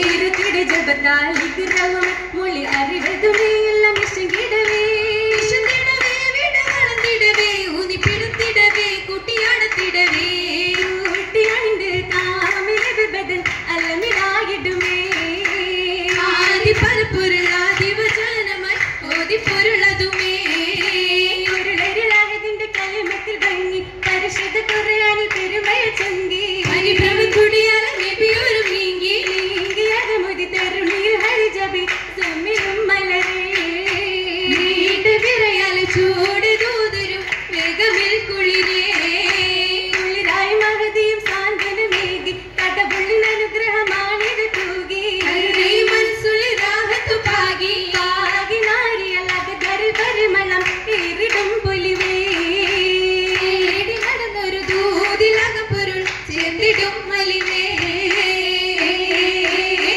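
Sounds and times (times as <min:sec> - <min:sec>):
girls singing in chorus: 0:00.0 - 0:59.9
rhythmic group hand clapping: 0:00.0 - 0:59.9.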